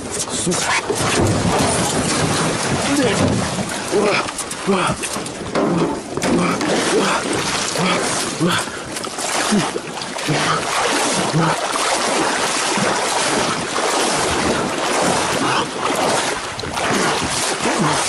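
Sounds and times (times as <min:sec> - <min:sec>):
water splashing around boat: 0:00.0 - 0:18.0
wind buffeting microphone: 0:00.0 - 0:18.0.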